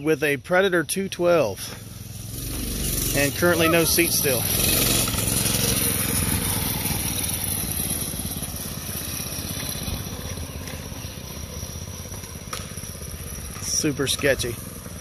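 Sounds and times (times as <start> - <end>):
minibike engine running: 0.4 - 15.0.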